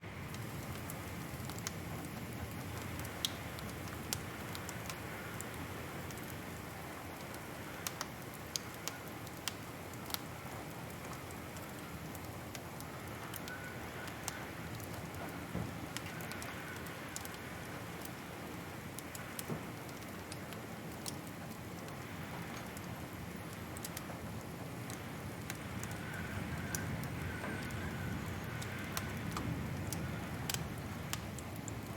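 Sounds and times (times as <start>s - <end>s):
wood fire crackling: 0.1s - 31.9s.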